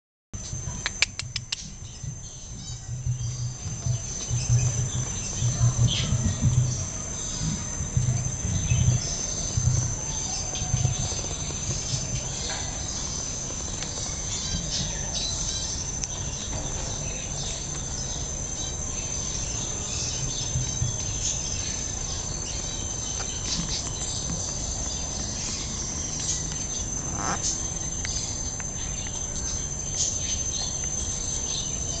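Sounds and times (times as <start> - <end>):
insects trilling: 0.4 - 32.0.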